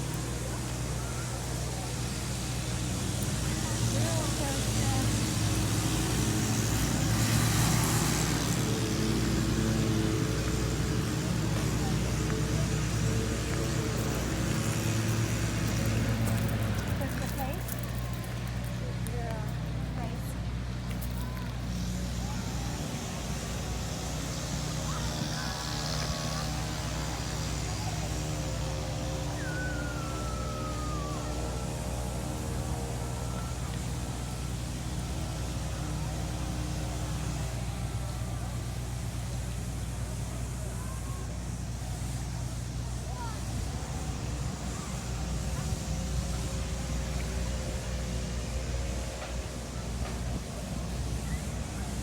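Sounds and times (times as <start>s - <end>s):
faint distant voices: 0.0s - 52.0s
outdoor traffic noise: 0.0s - 52.0s
vehicle engine humming: 0.0s - 52.0s.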